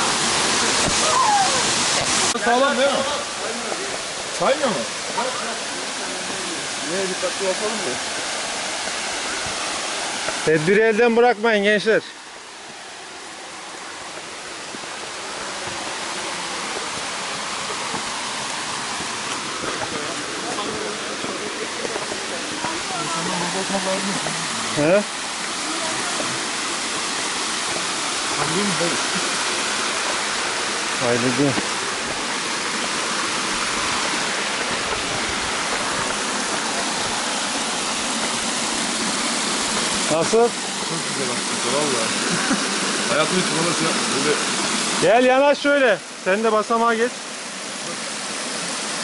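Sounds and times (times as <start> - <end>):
waterfall rushing water: 0.0 - 49.0.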